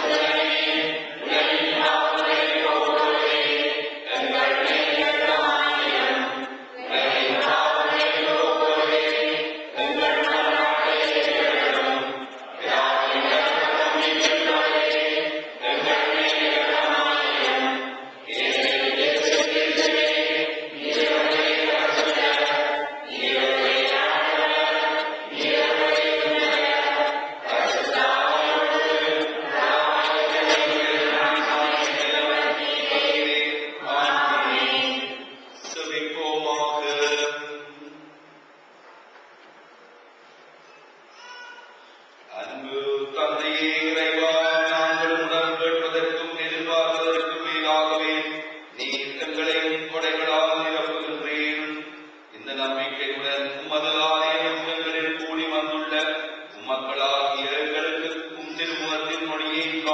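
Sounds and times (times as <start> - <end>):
voices singing a church chant: 0.0 - 38.1, 42.3 - 59.9.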